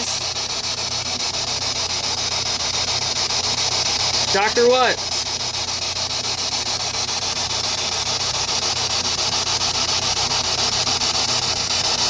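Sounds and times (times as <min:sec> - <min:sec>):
chopped radio static hiss: 0:00.0 - 0:12.0.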